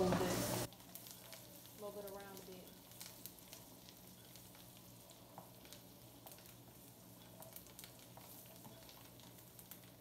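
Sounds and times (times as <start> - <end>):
steak sizzling in a pan: 0.0 - 10.0.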